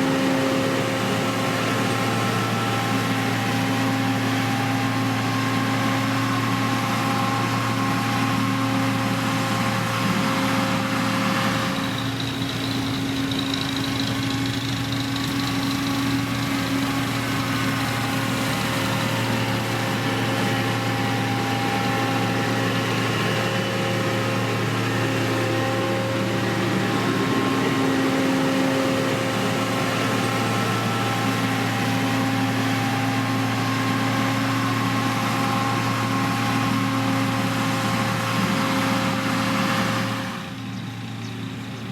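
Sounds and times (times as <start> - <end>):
diesel engine of heavy machinery: 0.0 - 41.9.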